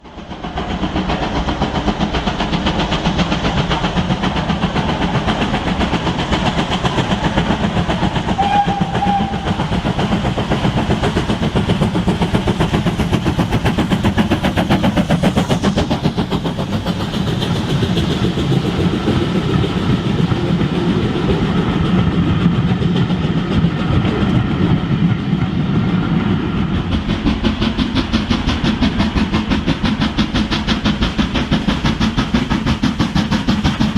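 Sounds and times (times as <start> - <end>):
steam train rhythmic clatter: 0.0 - 33.9.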